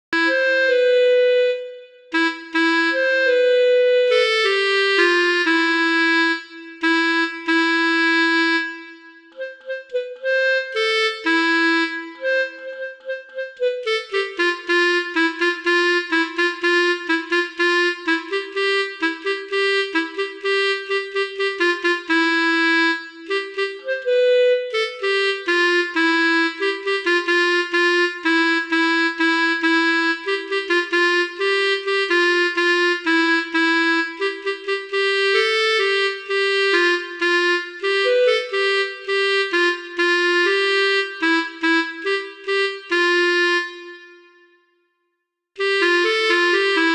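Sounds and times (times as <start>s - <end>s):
multi-tone bus horn tune: 0.1s - 44.6s.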